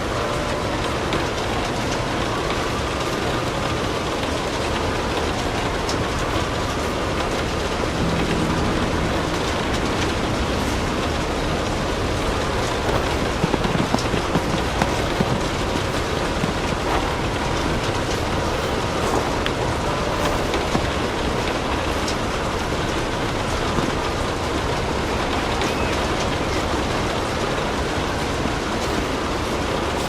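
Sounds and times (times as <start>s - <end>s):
log fire crackling: 0.0s - 30.0s
steady rain falling: 0.0s - 30.0s.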